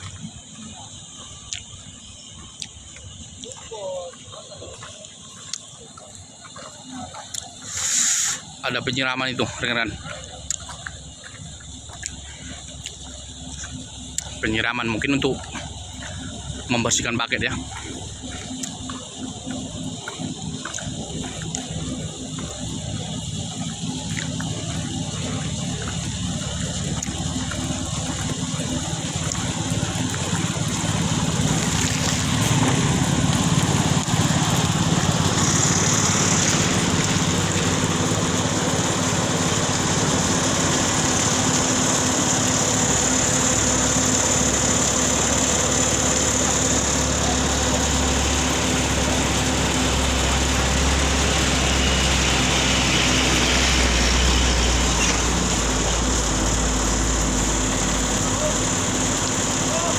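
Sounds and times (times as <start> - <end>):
water spraying hiss: 0.0 - 10.0, 12.2 - 59.9
diesel engines running: 0.0 - 59.9.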